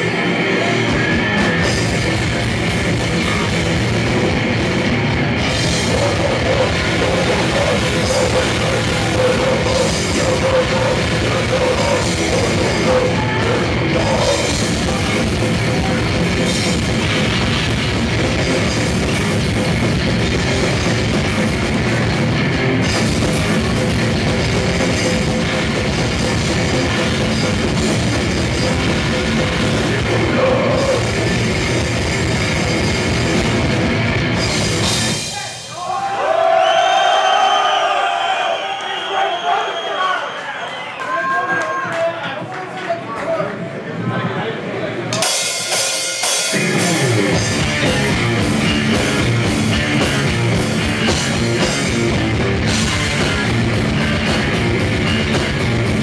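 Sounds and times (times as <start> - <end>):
bass guitar: 0.0 - 35.7, 46.4 - 56.0
distorted electric guitar: 0.0 - 35.7, 45.1 - 56.0
drum kit: 0.0 - 36.1, 45.1 - 56.0.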